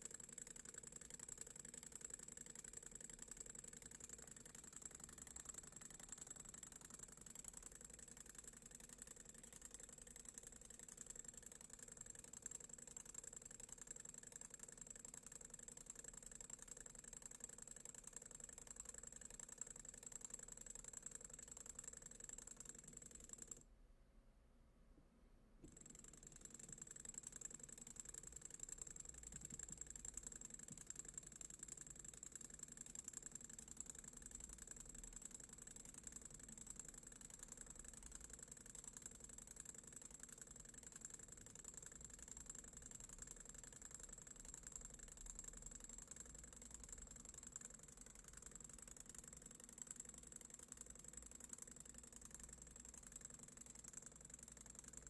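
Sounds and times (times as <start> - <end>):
engine piston rattling in tube: 0.0 - 23.6, 25.6 - 55.0.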